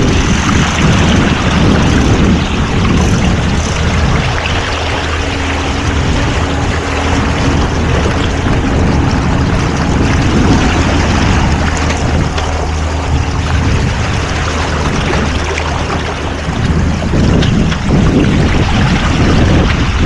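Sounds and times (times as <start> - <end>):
boat motor hum: 0.0 - 20.0
rushing water: 0.0 - 20.0
wind noise: 0.0 - 20.0.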